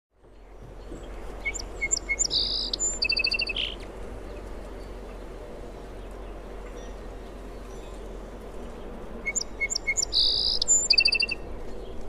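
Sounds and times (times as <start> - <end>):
steady background hiss: 0.4 - 12.0.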